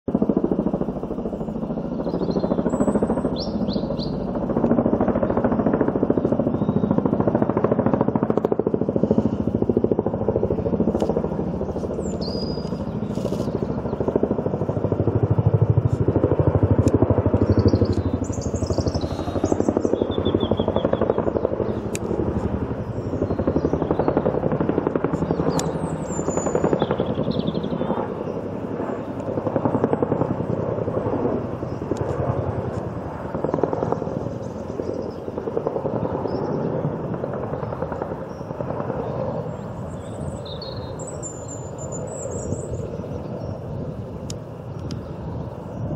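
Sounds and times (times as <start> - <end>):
helicopter rotors chopping: 0.1 - 45.9.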